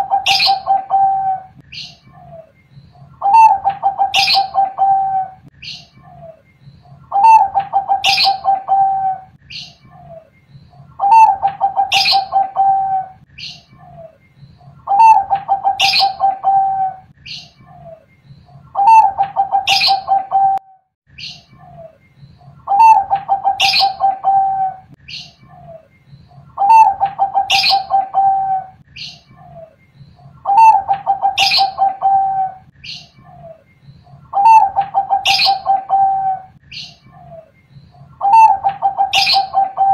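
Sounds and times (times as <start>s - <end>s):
dove cooing: 0.0s - 20.8s, 22.6s - 39.9s.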